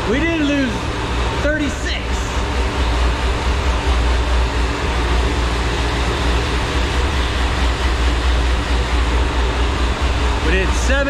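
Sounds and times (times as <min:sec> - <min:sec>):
loud machine drone: 0:00.0 - 0:11.0.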